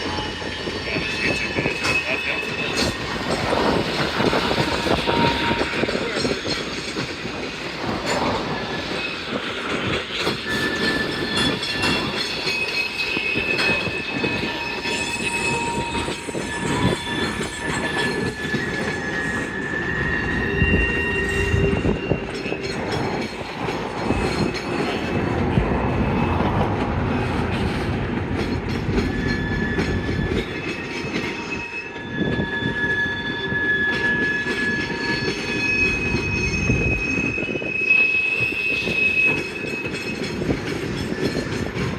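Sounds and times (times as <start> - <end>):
steel wheels squealing: 0.0 - 27.7, 28.4 - 41.9
railcar rumble and wheel clatter: 0.0 - 41.9.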